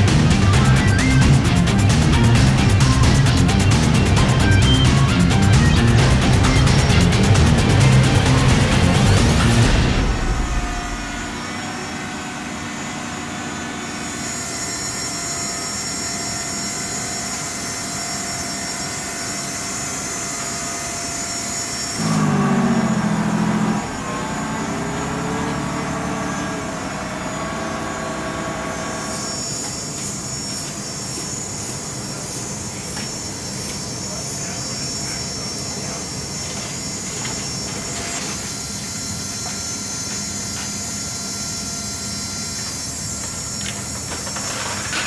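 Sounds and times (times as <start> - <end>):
aircraft engines whining and humming: 0.0 - 45.0.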